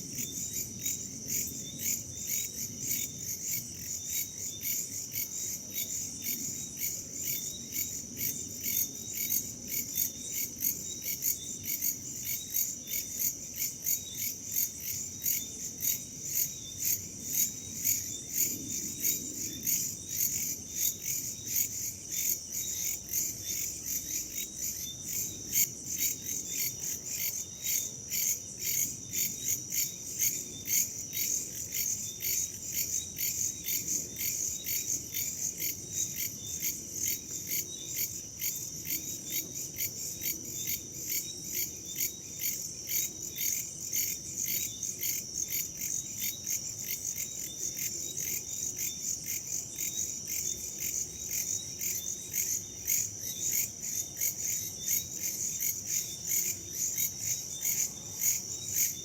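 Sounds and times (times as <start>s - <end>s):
crickets chirping: 0.0s - 59.0s
faint wind: 0.0s - 59.0s.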